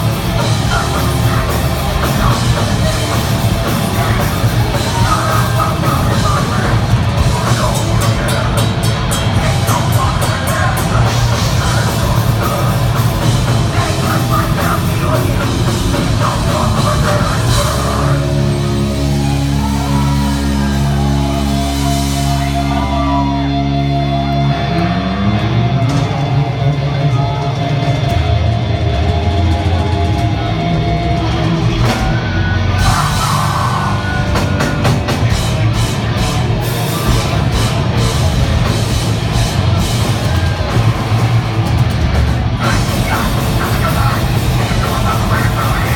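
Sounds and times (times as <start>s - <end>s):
heavy metal band playing: 0.0s - 45.9s.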